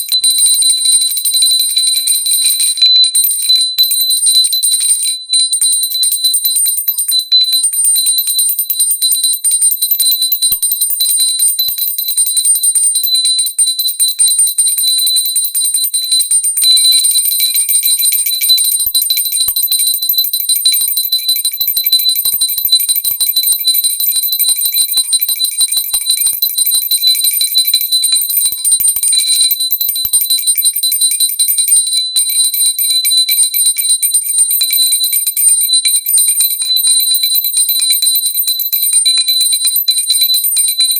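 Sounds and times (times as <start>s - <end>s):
bell ringing continuously: 0.0s - 40.9s.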